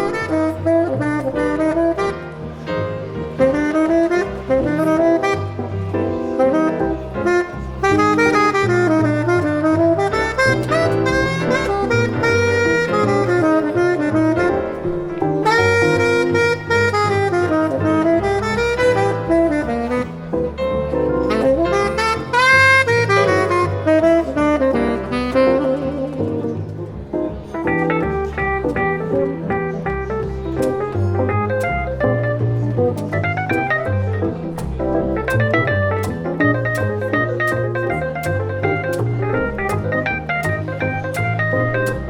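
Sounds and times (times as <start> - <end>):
tenor saxophone improvising jazz: 0.0 - 42.0.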